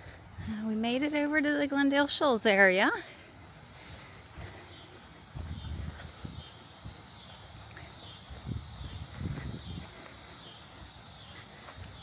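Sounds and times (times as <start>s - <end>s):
footsteps on dirt trail: 0.0s - 12.0s.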